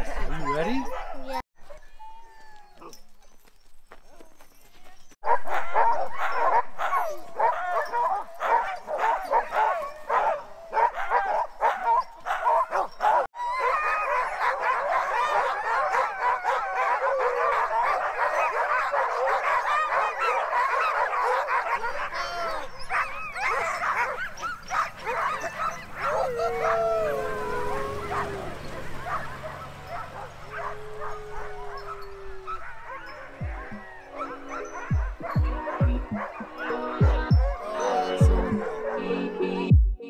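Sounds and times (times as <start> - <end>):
sled dogs barking and howling: 0.0 - 39.7.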